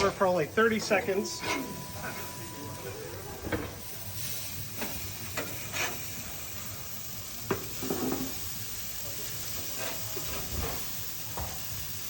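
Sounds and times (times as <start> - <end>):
fish sizzling on grill: 0.0 - 12.0.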